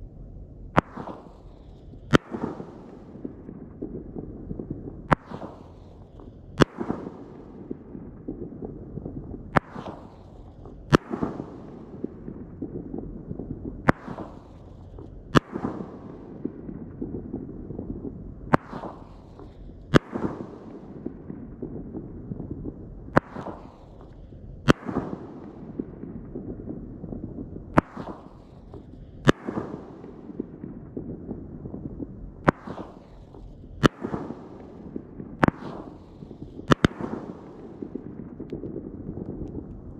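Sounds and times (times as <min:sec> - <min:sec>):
firework shots banging: 0:00.6 - 0:21.8, 0:23.1 - 0:26.6, 0:27.7 - 0:39.9.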